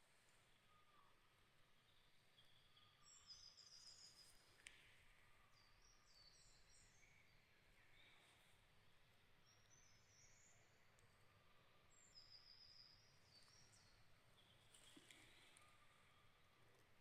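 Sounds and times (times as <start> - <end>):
songbirds singing trills: 0.5 - 16.6.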